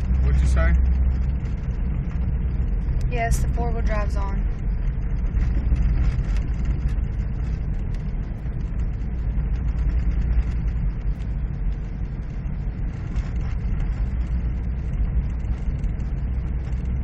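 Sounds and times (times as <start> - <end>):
vehicle driving through snow: 0.0 - 17.0.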